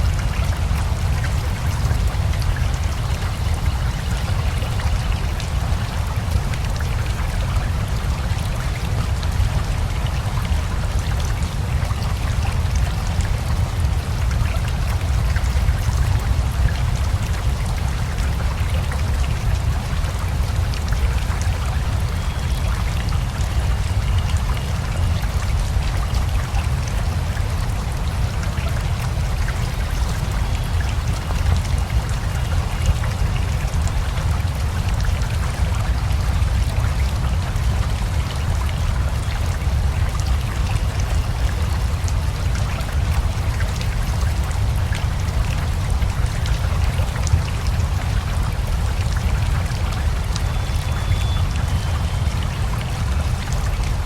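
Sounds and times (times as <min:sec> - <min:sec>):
flowing river: 0:00.0 - 0:54.0
steady rain: 0:00.0 - 0:54.0.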